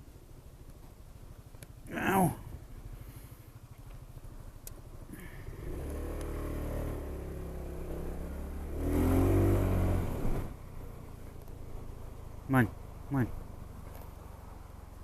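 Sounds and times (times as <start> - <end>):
scooter engine idling and revving: 0.0 - 15.0.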